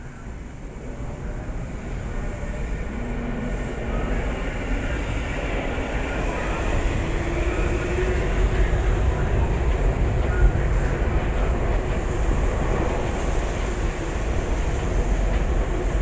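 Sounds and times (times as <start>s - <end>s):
train running gear rumble: 0.0s - 16.0s.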